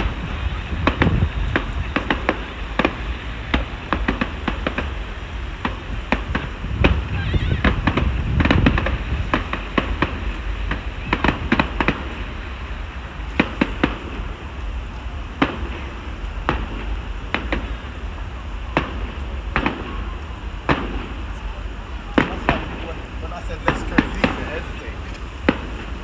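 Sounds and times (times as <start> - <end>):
fireworks bangs and cracks: 0.0 - 26.0.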